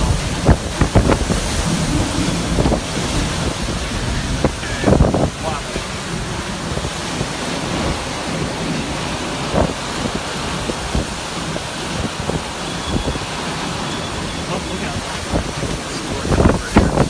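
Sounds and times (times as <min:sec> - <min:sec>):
hurricane wind: 0:00.0 - 0:17.0
rain: 0:00.0 - 0:17.0
wind buffeting microphone: 0:00.0 - 0:17.0.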